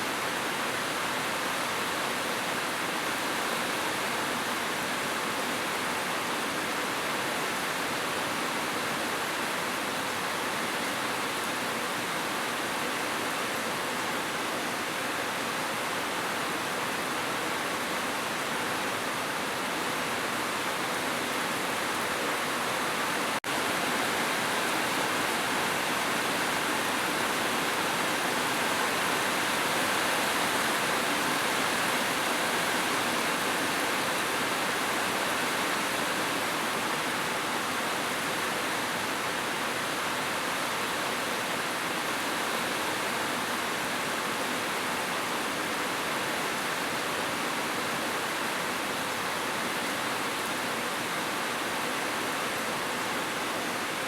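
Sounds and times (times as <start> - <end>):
steady dense rainfall: 0.0 - 54.0.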